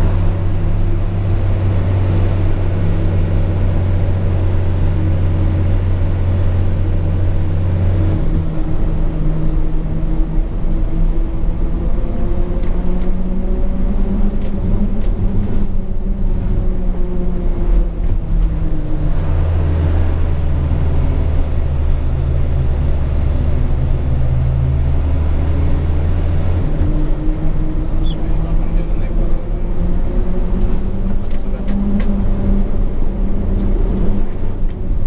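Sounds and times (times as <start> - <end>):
deep steady drone: 0.0 - 35.0.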